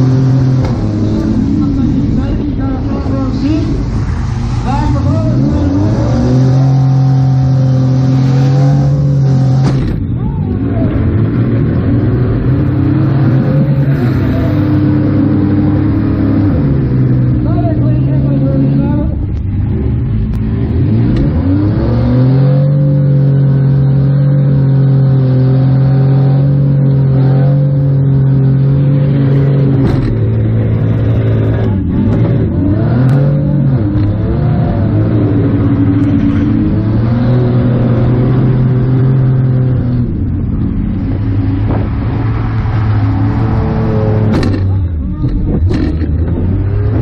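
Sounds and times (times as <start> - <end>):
minivan engine revving: 0.0 - 47.0.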